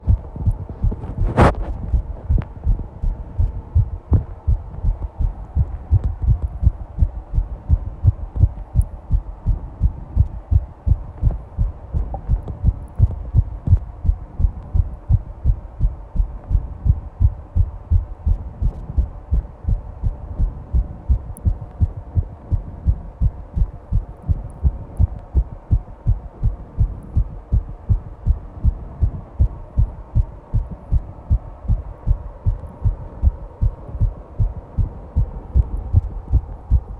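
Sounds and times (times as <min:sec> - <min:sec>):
fast heartbeat thuds: 0:00.0 - 0:36.9.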